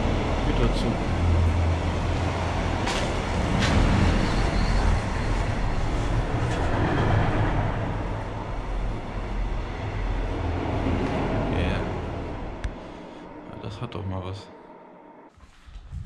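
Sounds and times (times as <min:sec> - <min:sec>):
freight train rumbling past: 0:00.0 - 0:15.3.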